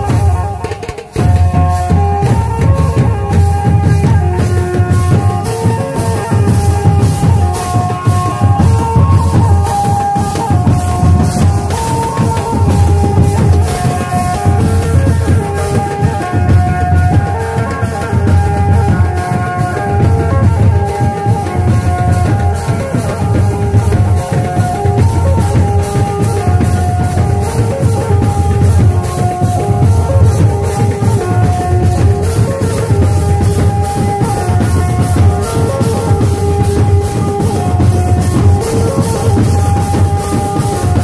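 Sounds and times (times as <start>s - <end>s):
banjo melody: 0.0s - 41.0s
fast loud drumming: 0.0s - 41.0s.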